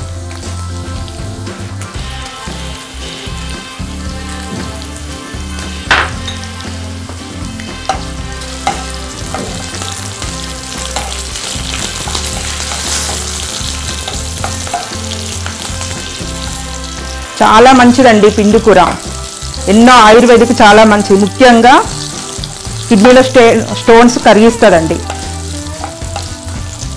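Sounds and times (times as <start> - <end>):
chillies sizzling in hot oil: 0.0 - 26.9.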